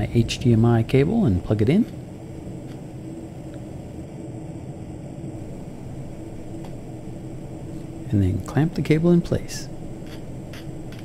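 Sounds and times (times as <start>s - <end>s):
faint constant tone: 0.0s - 11.0s
low background hum and rumble: 0.0s - 11.0s.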